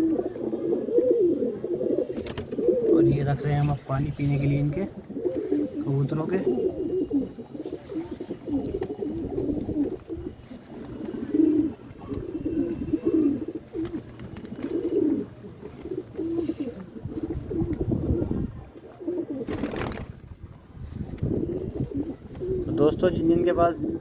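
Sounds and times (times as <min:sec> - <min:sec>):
pigeons cooing: 0:00.0 - 0:20.1, 0:20.8 - 0:24.0.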